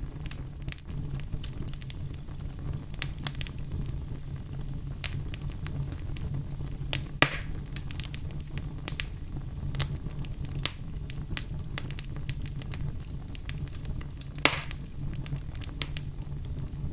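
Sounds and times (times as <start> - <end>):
logs crackling and popping: 0.0 - 16.9
low rumble of flames: 0.0 - 16.9.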